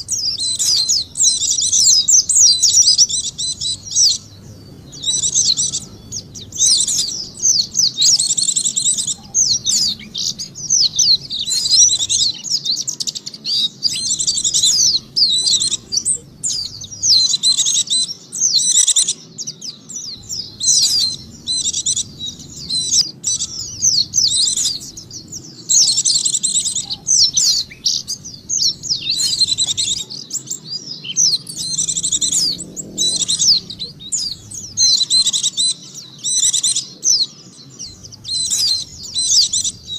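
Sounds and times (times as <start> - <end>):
bird high twittering song: 0.0 - 39.9.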